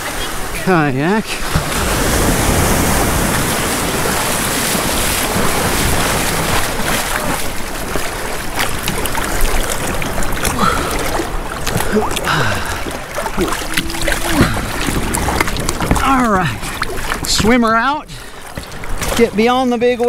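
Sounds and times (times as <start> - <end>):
small waves breaking: 0.0 - 20.0
water splashing around kayak: 0.0 - 20.0.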